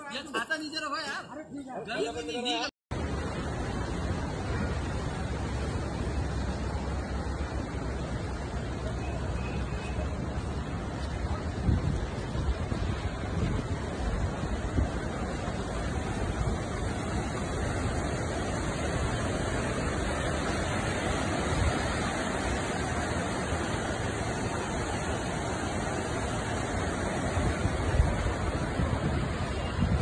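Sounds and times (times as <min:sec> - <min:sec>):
river rushing: 0:03.0 - 0:30.0.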